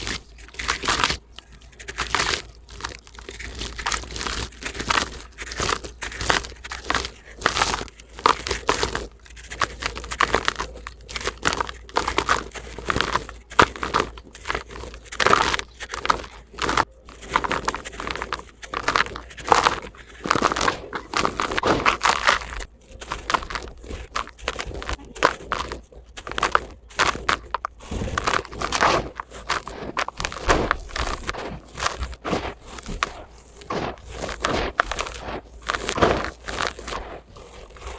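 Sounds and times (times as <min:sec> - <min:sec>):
sand-cement chunks crunching: 0:00.0 - 0:37.9.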